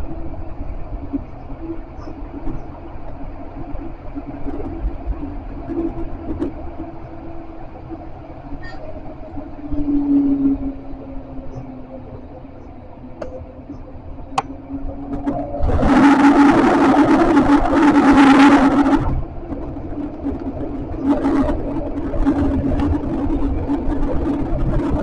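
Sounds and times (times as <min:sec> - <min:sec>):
humming tone: 0:00.0 - 0:25.0
tram rumbling on rails: 0:00.0 - 0:25.0.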